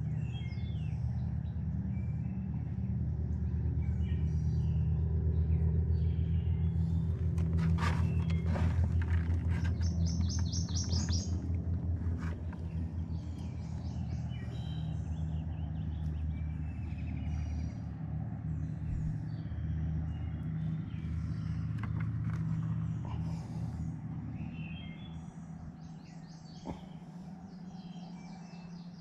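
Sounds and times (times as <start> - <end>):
low droning hum: 0.0 - 29.0
songbirds chirping: 0.0 - 29.0.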